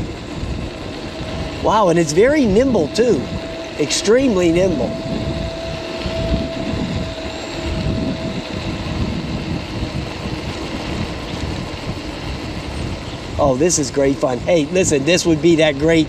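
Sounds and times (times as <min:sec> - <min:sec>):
thin steady whine: 0:00.0 - 0:16.0
tyres rolling on pavement: 0:00.0 - 0:16.0
wind buffeting microphone: 0:00.0 - 0:16.0.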